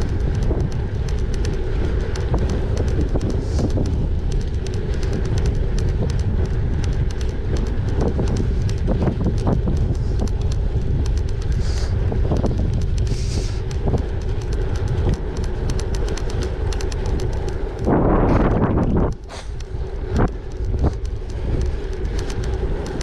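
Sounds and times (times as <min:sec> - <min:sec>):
rushing noise: 0:00.0 - 0:23.0
wind rumbling on microphone: 0:00.0 - 0:23.0.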